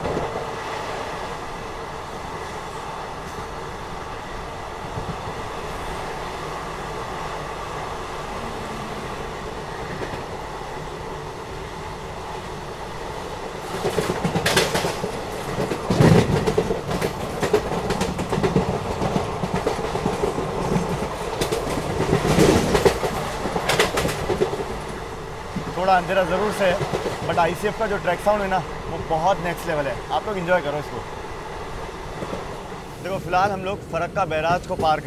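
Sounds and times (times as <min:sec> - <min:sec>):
clickety-clack of train wheels: 0:00.0 - 0:01.6, 0:02.3 - 0:04.1, 0:04.8 - 0:07.5, 0:09.7 - 0:11.7, 0:12.3 - 0:35.0
train wheels rumbling on rails: 0:00.0 - 0:35.0.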